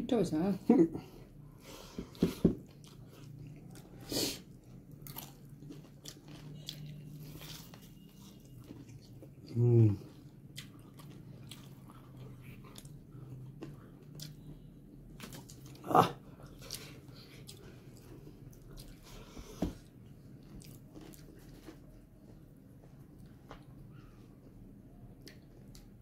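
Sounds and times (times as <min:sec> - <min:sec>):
person chewing food: 0:01.4 - 0:26.0.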